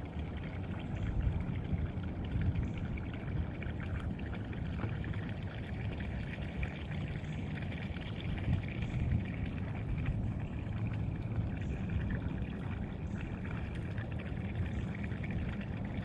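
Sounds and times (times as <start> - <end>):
low flickering rumble: 0.0 - 16.0
water pouring and splashing: 0.0 - 16.0.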